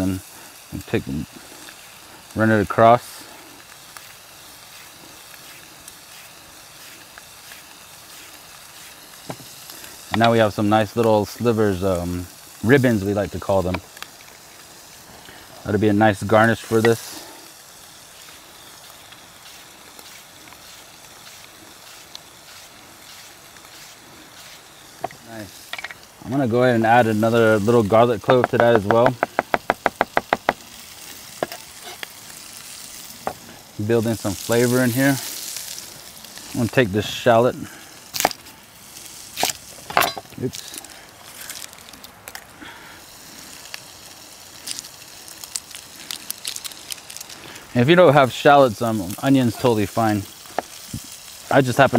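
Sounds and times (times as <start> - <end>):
faint steady hiss: 0.0 - 51.9
food sizzling in a pan: 0.0 - 51.9.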